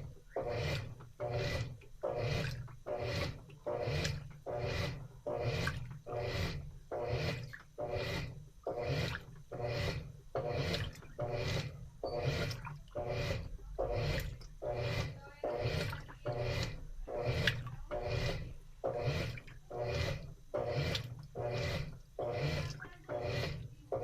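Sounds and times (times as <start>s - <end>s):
washing machine sloshing water: 0.0s - 24.0s.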